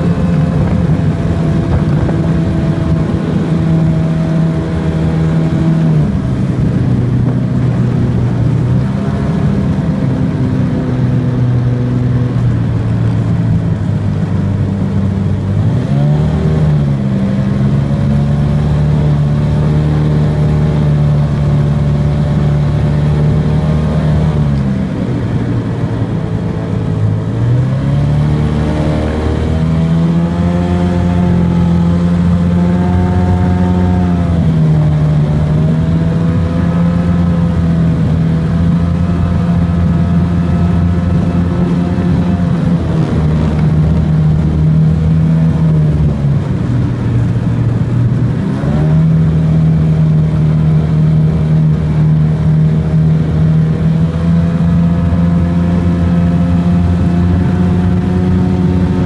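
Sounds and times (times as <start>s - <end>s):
outboard motor racing: 0.0s - 59.0s.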